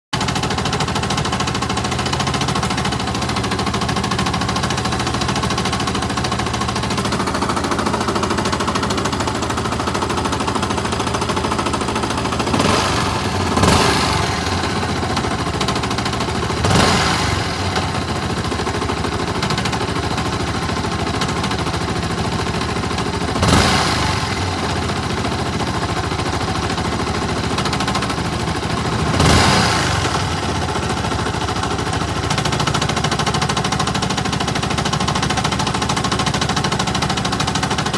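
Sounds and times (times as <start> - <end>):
motorcycle engine idling and revving: 0.1 - 37.9
strange engine noise: 0.2 - 37.9.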